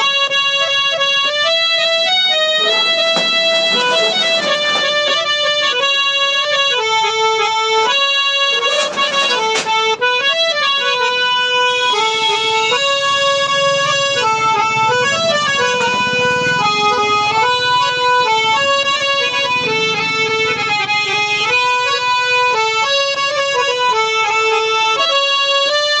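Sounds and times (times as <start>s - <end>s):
harmonium melody: 0.0s - 26.0s.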